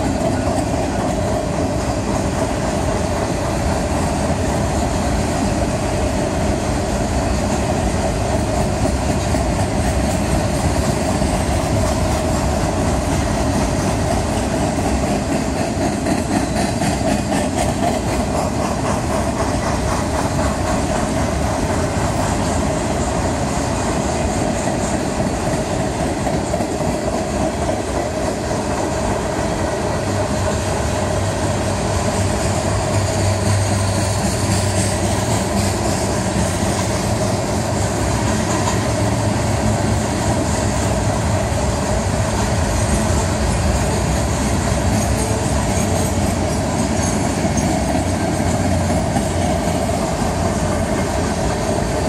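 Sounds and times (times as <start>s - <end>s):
train wheels clacking on rail: 0.0s - 52.0s.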